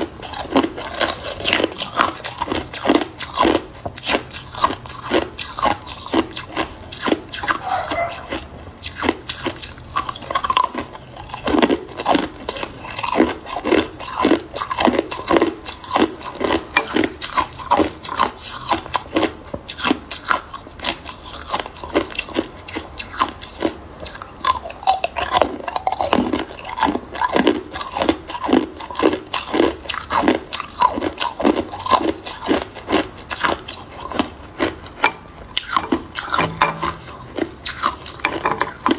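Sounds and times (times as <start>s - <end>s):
ice cubes crunching: 0.0s - 38.9s.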